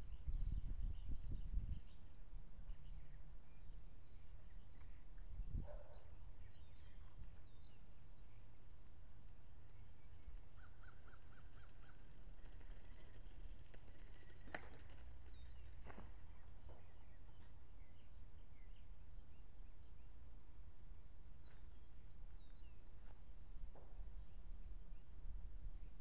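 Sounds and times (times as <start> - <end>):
birds chirping: 0.0 - 25.2.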